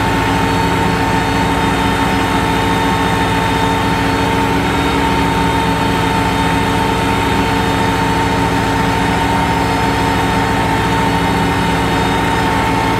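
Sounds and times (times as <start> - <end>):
steady whine: 0.0 - 12.9
tractor diesel engine under load: 0.0 - 12.9.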